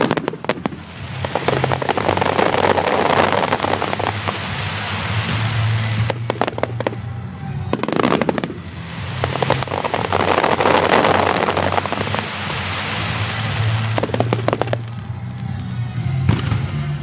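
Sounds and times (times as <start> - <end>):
fireworks bursting and crackling: 0.0 - 17.0
music: 0.0 - 17.0
sharp firework reports: 0.0 - 17.0.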